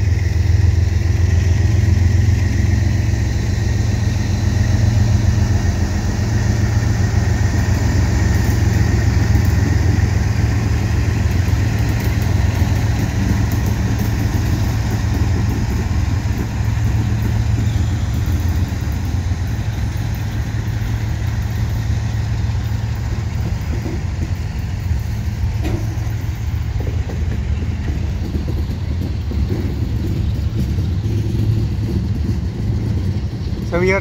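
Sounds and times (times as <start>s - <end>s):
locomotive engines humming: 0.0s - 34.0s
train wheel clicks on rails: 0.0s - 34.0s.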